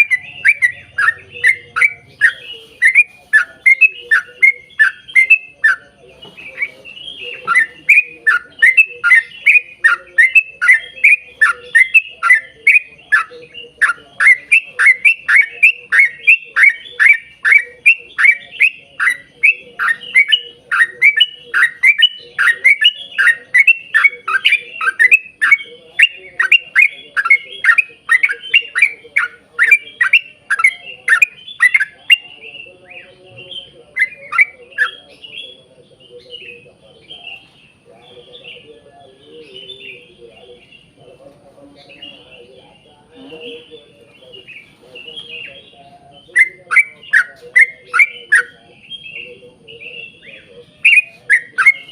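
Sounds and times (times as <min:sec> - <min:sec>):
bird singing chattering notes: 0:00.0 - 0:51.9.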